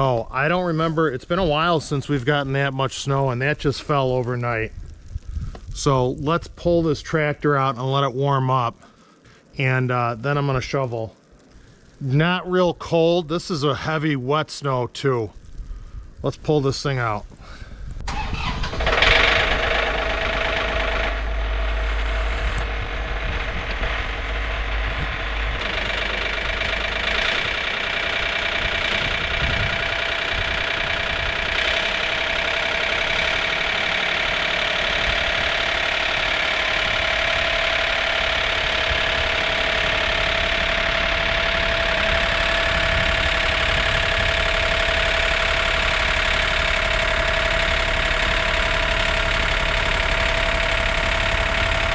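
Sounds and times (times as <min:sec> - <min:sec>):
tractor engine idling: 0:00.0 - 0:07.7, 0:17.0 - 0:51.9.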